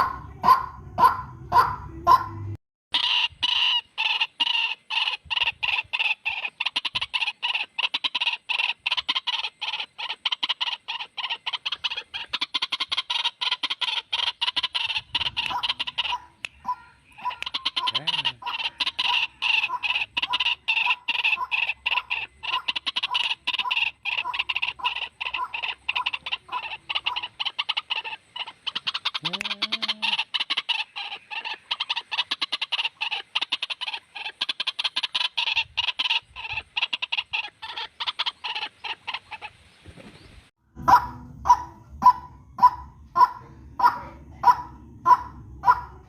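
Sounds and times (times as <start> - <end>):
waterhen calling: 0.0 - 46.0.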